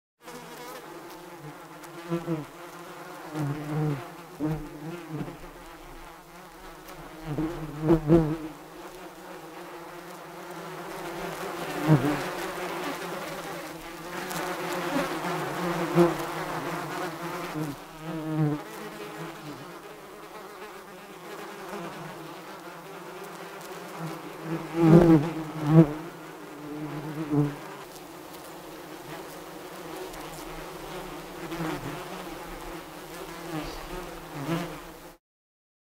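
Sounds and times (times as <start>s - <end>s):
bees buzzing: 0.2s - 35.2s.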